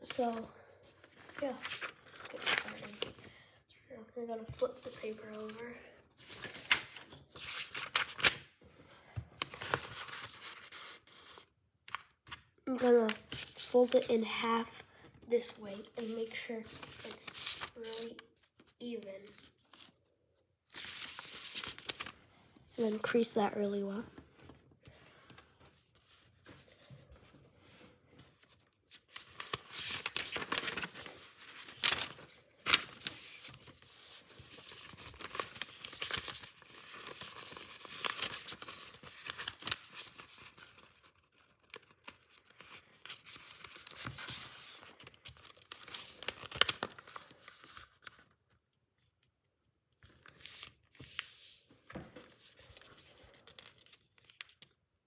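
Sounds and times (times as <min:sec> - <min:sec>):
paper rustling and crinkling: 0:00.0 - 0:03.4, 0:04.4 - 0:20.1, 0:20.7 - 0:49.1, 0:50.0 - 0:54.8.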